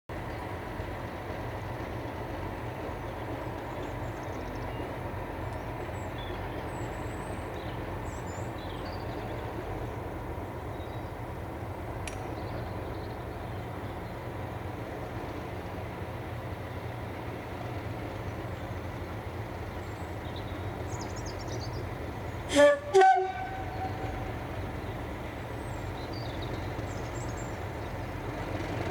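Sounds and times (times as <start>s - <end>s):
diesel locomotive engine running: 0.1s - 28.9s.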